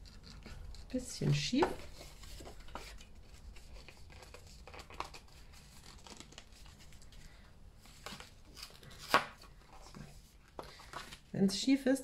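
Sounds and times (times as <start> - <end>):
paper rustling and crinkling: 0.0 - 11.3.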